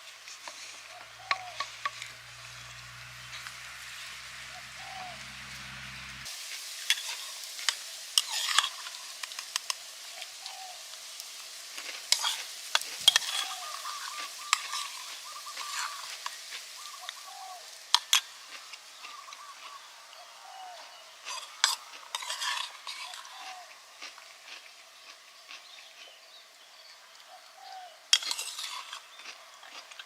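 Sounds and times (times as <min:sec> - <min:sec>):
hot pan sizzling: 0:00.0 - 0:19.8, 0:21.3 - 0:24.9, 0:28.1 - 0:29.0.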